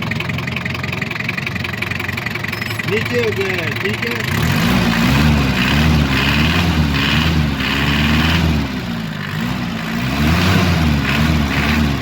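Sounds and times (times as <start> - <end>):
diesel engine running: 0.0 - 12.0
engine clatter: 0.0 - 12.0.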